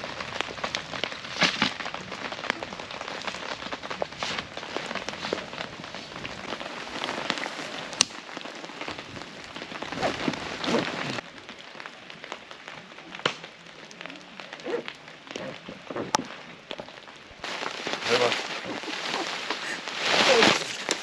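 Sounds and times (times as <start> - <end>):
rain drops ticking and tapping: 0.0 - 21.0.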